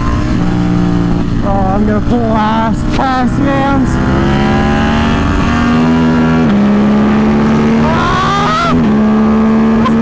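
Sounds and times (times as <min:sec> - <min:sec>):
motorcycle engine revving at speed: 0:00.0 - 0:10.0.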